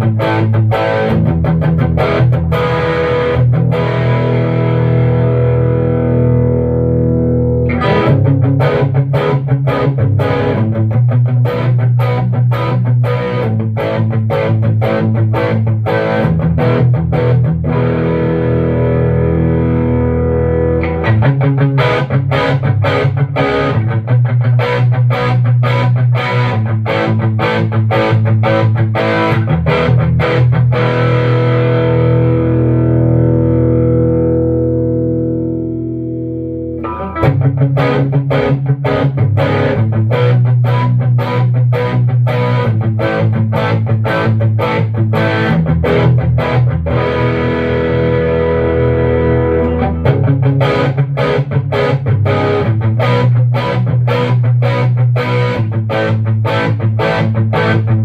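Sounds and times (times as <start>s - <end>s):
distorted electric guitar riff: 0.0s - 58.0s.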